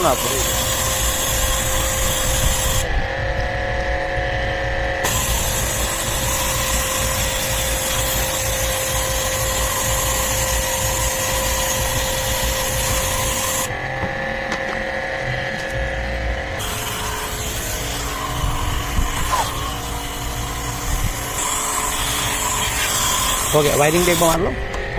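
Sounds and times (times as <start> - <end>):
pump motor hum: 0.0 - 24.9.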